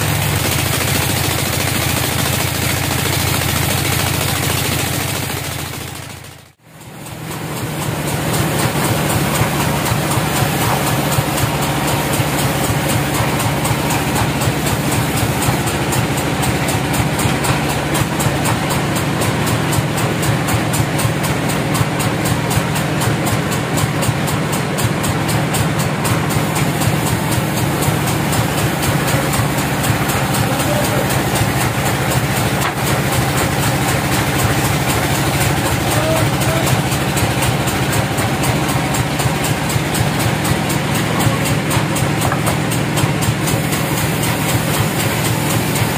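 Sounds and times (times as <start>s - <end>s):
engine idling low drone: 0.0s - 45.9s
sawmill machinery humming: 0.0s - 45.9s.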